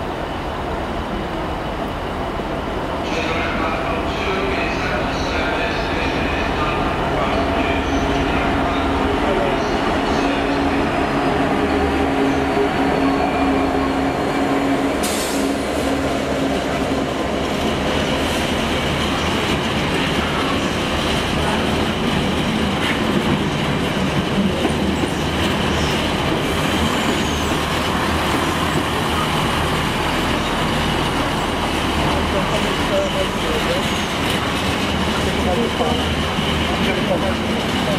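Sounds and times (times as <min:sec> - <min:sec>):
diesel locomotive engine passing: 0:00.0 - 0:37.9
train wagons rolling on rails: 0:00.0 - 0:37.9.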